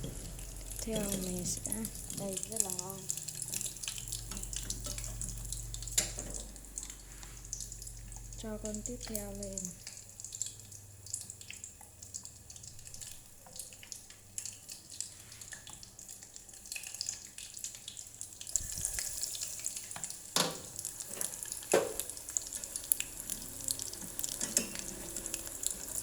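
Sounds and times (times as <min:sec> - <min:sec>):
shrimp deep-frying in oil: 0:00.0 - 0:26.0.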